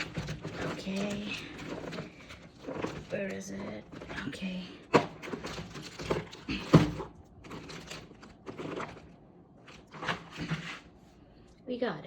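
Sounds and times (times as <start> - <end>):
plastic toys clattering: 0.0 - 11.0
rustling: 0.0 - 11.3.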